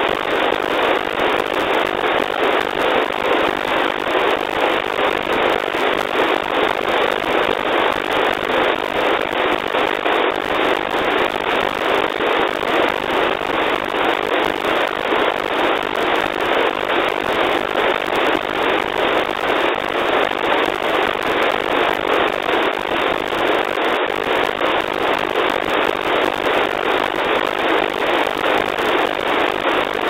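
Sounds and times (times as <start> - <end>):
pulsing satellite signal: 0.0 - 30.0
radio static hiss: 0.0 - 30.0.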